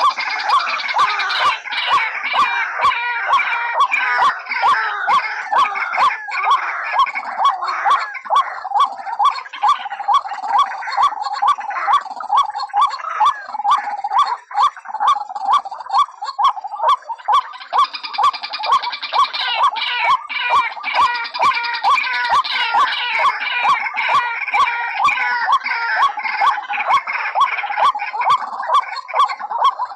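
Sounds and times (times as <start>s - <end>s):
harsh bird calls: 0.0s - 29.9s
waterhens calling: 0.0s - 29.9s.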